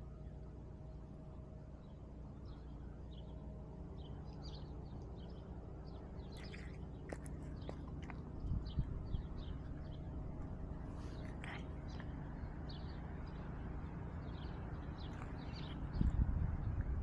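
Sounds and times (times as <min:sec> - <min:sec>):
low steady background noise: 0:00.0 - 0:17.0
small birds chirping: 0:00.0 - 0:17.0.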